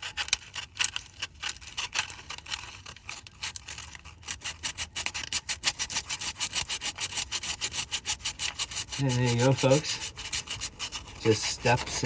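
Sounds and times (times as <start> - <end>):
sandpaper rubbing on metal: 0.0 - 12.0.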